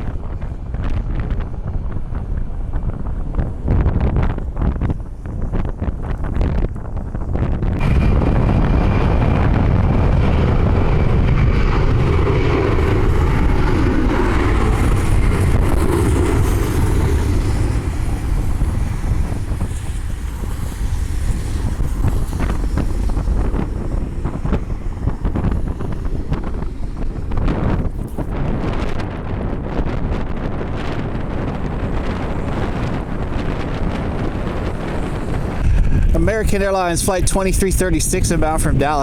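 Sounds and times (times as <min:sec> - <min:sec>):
jet engines rumbling: 0:00.0 - 0:39.0
wind buffeting microphone: 0:00.0 - 0:39.0.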